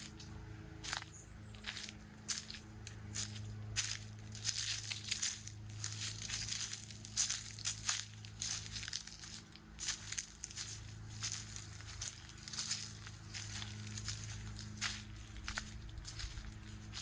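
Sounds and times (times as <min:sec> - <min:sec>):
footsteps crunching on loose ground: 0:00.0 - 0:17.0
steady low hum: 0:00.0 - 0:17.0.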